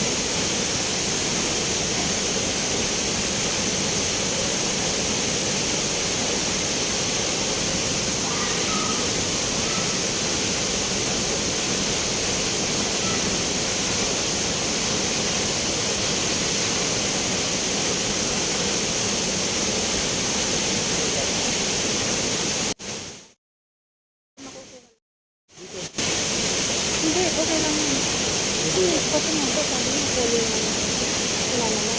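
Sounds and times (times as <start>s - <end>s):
flowing spring water: 0.0s - 23.2s, 25.5s - 31.9s.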